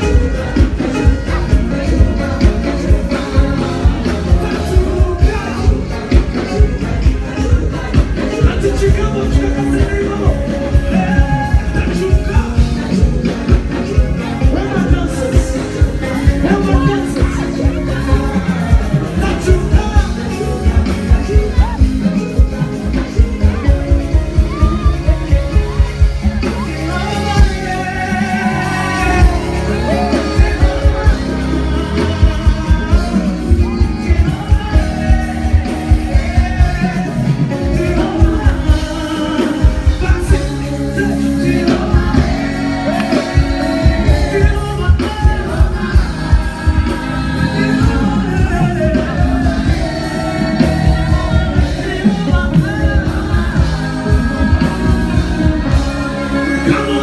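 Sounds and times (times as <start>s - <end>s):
fast drum beat: 0.0s - 57.0s
gospel singing over a band: 0.0s - 57.0s.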